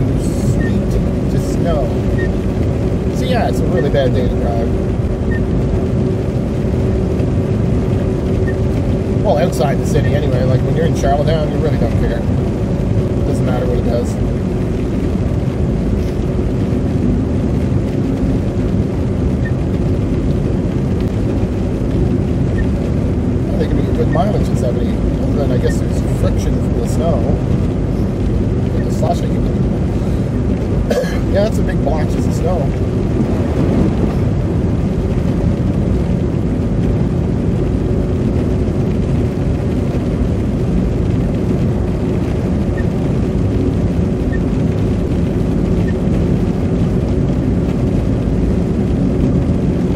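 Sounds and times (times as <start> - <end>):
car engine: 0.0 - 49.9
tyre and road noise: 0.0 - 49.9.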